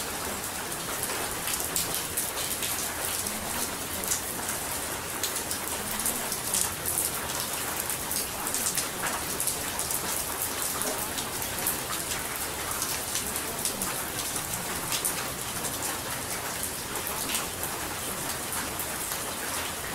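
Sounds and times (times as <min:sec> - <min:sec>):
raindrops ticking: 0:00.0 - 0:19.9
steady rain: 0:00.0 - 0:19.9.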